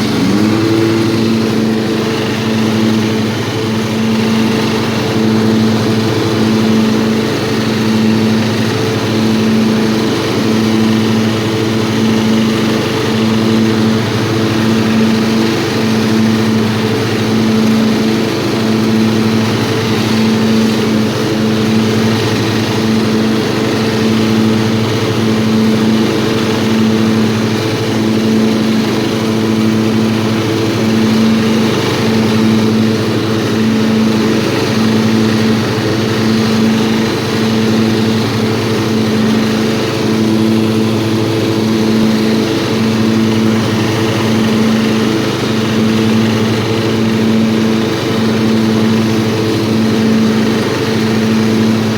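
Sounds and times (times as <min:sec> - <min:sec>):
lawnmower engine running: 0:00.0 - 0:51.9.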